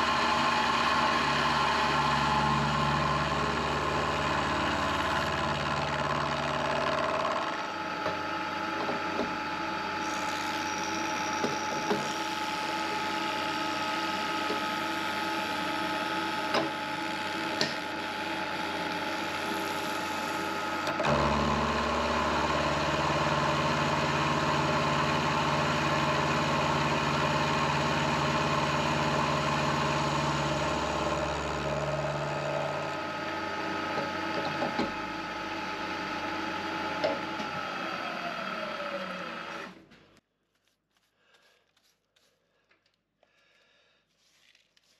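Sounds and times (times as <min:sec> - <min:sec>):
milling machine cutting metal: 0:00.0 - 0:39.7.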